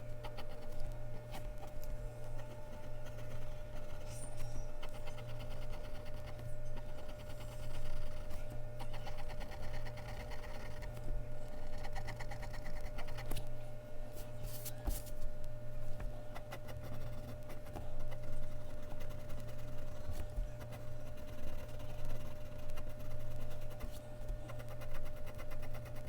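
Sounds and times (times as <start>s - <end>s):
low electrical hum: 0.0s - 26.0s
pencil scratching on paper: 0.2s - 13.4s, 16.4s - 26.0s.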